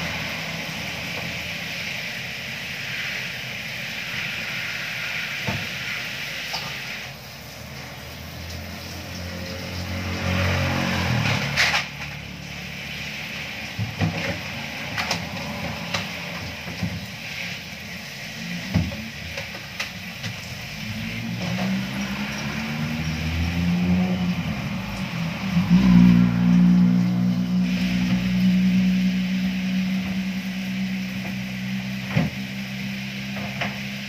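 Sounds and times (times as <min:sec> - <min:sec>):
vehicle engine revving: 0:00.0 - 0:02.5, 0:07.8 - 0:19.2, 0:20.3 - 0:34.0
hose water spraying and splashing: 0:00.0 - 0:34.0.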